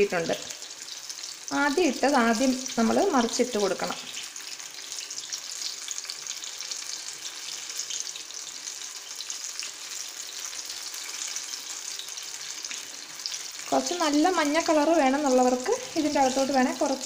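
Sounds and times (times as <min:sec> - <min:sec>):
deep-frying crackling sizzle: 0:00.0 - 0:17.0.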